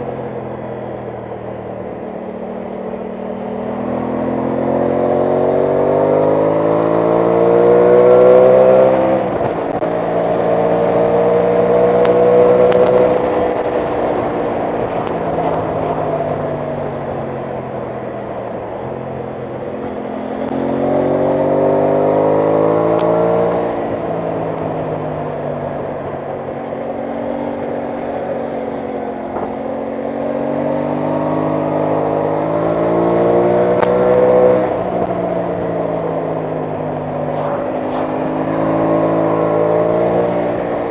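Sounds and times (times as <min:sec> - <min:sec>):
motorcycle engine accelerating: 0:00.0 - 0:40.9
wind rush over microphone: 0:06.5 - 0:40.9.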